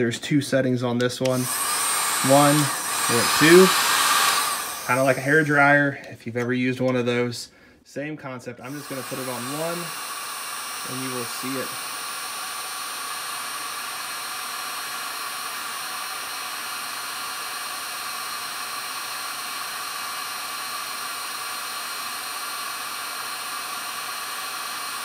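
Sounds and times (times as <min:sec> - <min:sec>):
heat gun fan hissing: 0:01.2 - 0:05.9, 0:08.6 - 0:25.0.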